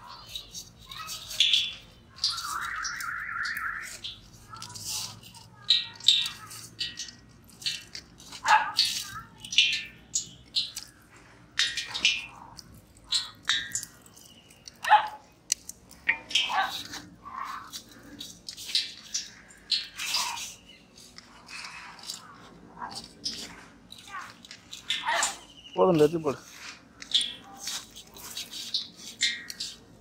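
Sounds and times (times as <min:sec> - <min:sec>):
wet squishes and crunches: 0:00.0 - 0:30.0.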